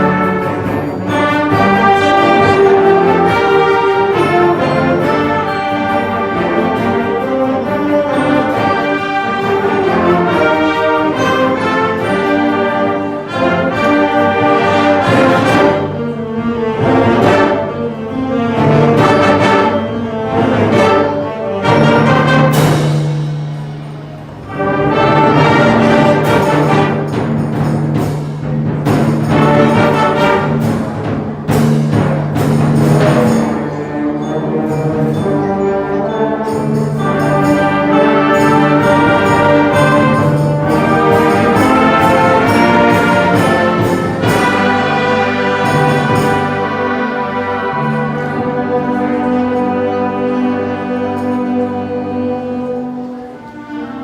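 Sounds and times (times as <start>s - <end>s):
concert band playing: 0.0s - 54.0s
percussion hits: 0.0s - 54.0s.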